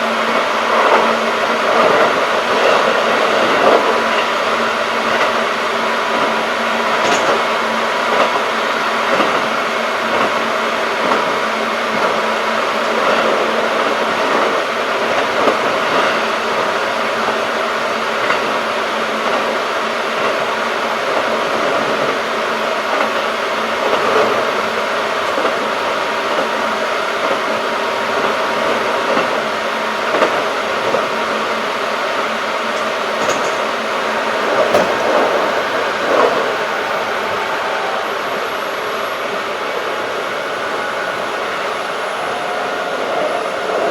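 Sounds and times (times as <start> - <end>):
train motor and gear hum: 0.0 - 43.9
train wheels rumbling on rail: 0.0 - 43.9.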